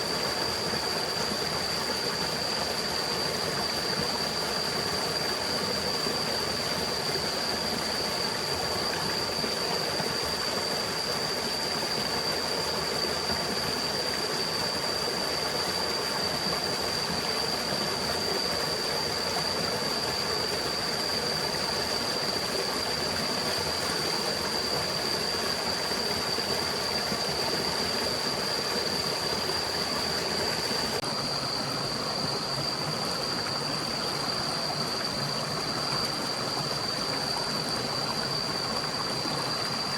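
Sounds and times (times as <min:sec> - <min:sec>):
forest stream rushing: 0:00.0 - 0:39.9.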